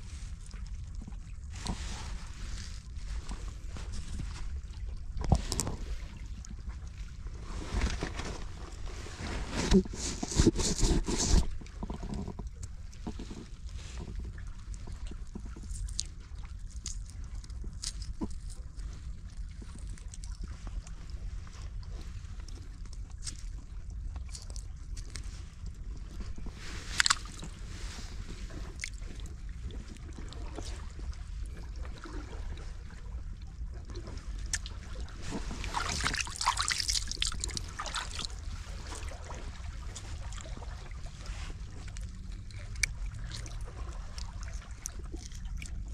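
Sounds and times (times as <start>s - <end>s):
sea water sloshing among rocks: 0.0s - 45.9s.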